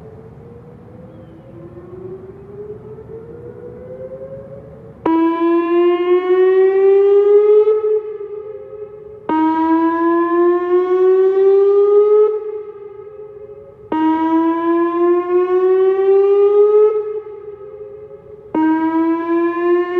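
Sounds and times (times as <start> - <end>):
outdoor warning siren rising: 0.0 - 19.9.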